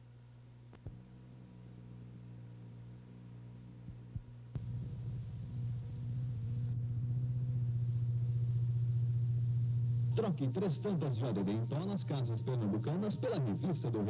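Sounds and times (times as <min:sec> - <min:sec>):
electrical hum and buzz: 0:00.0 - 0:14.0
thin high whine: 0:00.0 - 0:14.0.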